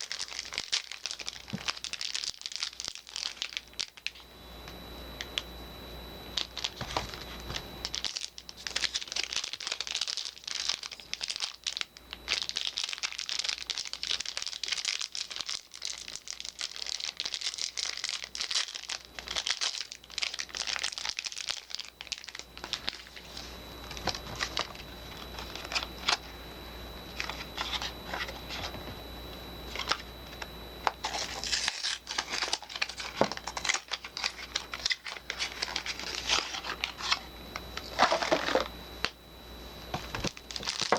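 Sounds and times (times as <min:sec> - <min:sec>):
packaging crinkling and tearing: 0:00.0 - 0:04.2, 0:06.4 - 0:26.3, 0:27.1 - 0:28.7, 0:29.7 - 0:39.2, 0:40.0 - 0:40.9.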